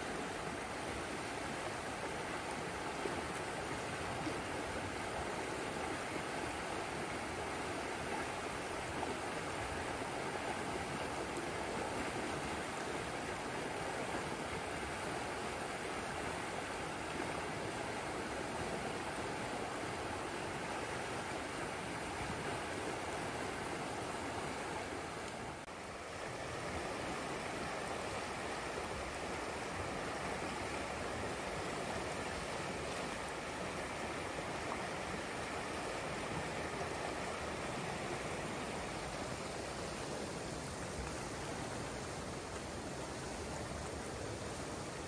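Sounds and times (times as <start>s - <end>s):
river rushing through rapids: 0.0s - 45.0s.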